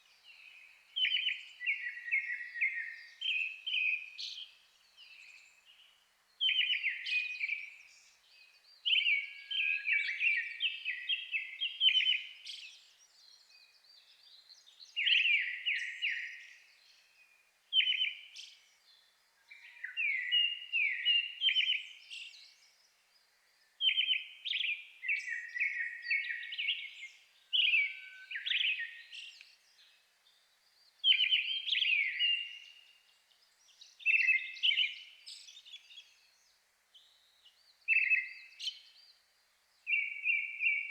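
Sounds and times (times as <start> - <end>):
thrushes whistling song: 0.1 - 18.9, 19.5 - 40.9.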